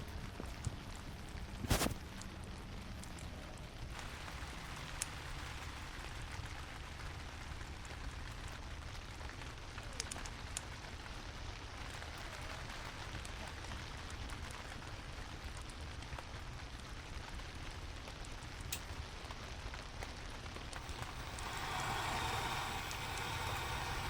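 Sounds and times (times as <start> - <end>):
heavy rain falling: 0.8 - 24.0.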